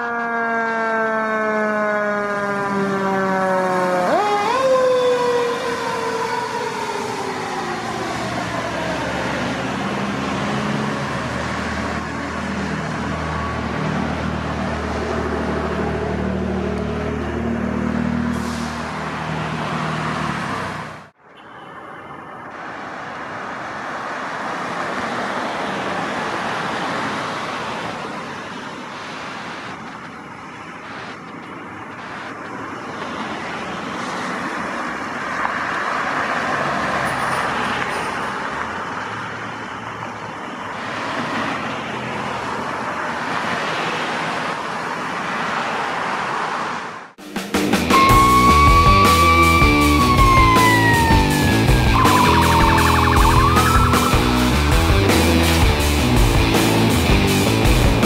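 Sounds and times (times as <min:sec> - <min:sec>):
vehicles driving past: 0:00.2 - 0:58.0.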